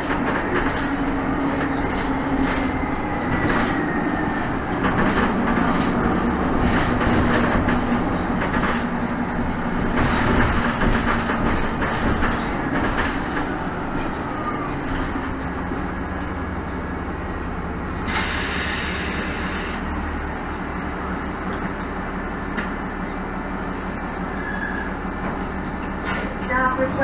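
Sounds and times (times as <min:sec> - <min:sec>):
bus engine droning: 0:00.0 - 0:27.0.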